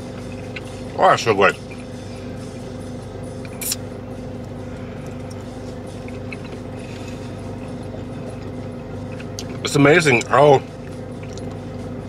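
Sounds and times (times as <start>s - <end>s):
vehicle engine hum inside cabin: 0.0s - 12.0s.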